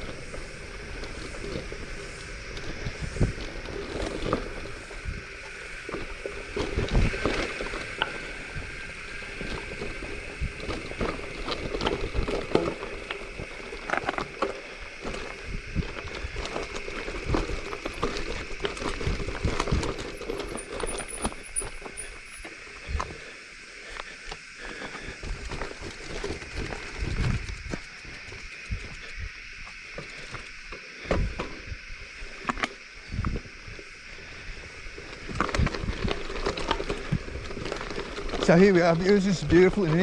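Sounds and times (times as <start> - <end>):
mountain bike rattling over gravel: 0.0 - 40.0.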